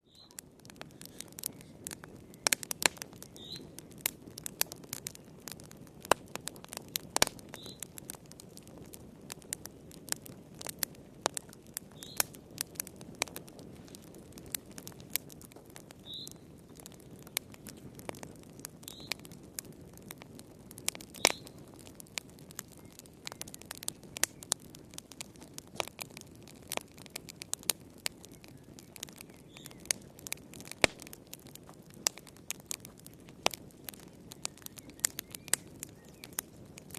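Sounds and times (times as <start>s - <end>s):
fire crackling and popping: 0.0s - 36.9s
soft rush of flame: 0.4s - 36.9s.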